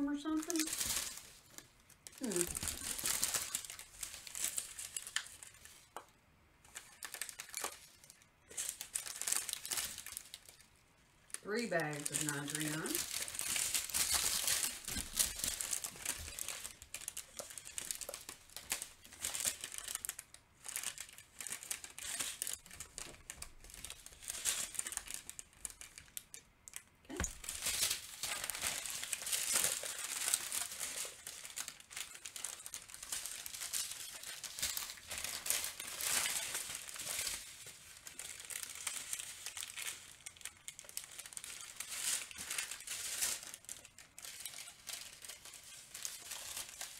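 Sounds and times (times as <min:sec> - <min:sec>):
plastic bags crinkling: 0:00.0 - 0:46.9.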